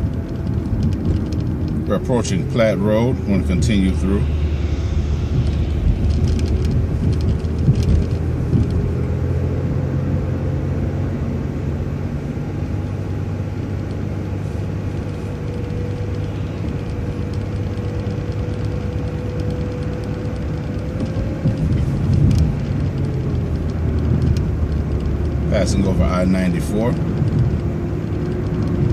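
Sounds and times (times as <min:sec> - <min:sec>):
bus engine drone: 0:00.0 - 0:28.9
drivetrain whine: 0:00.0 - 0:28.9
road noise: 0:00.0 - 0:28.9.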